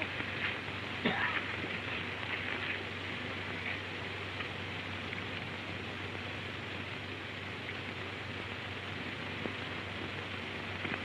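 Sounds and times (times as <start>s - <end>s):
film soundtrack hiss: 0.0s - 11.0s
low hum: 0.0s - 11.0s.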